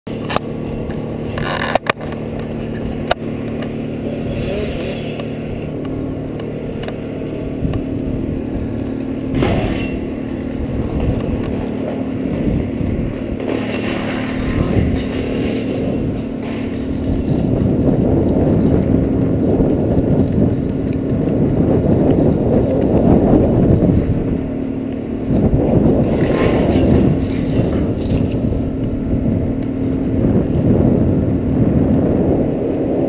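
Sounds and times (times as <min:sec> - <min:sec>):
engine running: 0:00.1 - 0:33.0.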